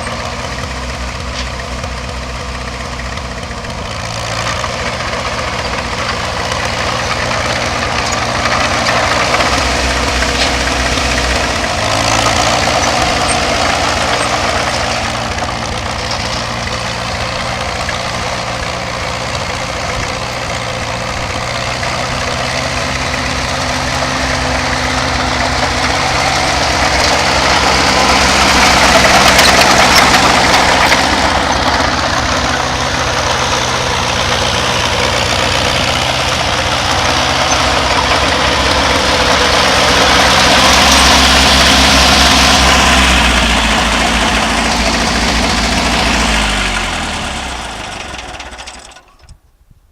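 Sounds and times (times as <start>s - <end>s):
tractor engine running: 0.0s - 49.5s.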